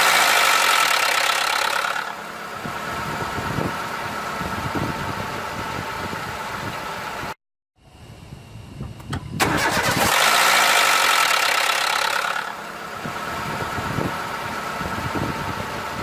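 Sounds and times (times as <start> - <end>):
car engine cranking and idling: 0.0 - 7.4, 8.9 - 16.0
harsh engine noise: 0.0 - 7.4, 8.3 - 16.0.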